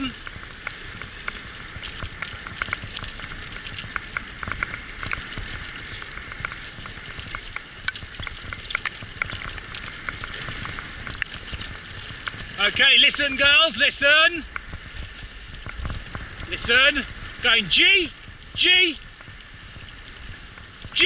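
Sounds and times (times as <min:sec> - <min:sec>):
rig rolling over gritty trail: 0:00.0 - 0:21.0
small clicks and ticks: 0:00.0 - 0:21.0.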